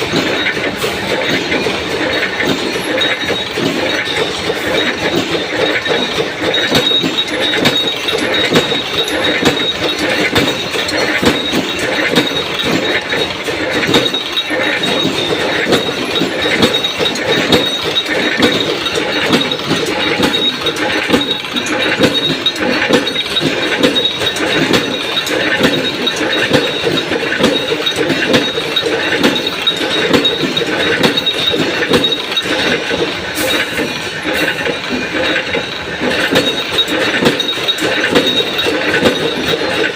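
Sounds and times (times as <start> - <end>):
punch press clattering: 0.0 - 39.9.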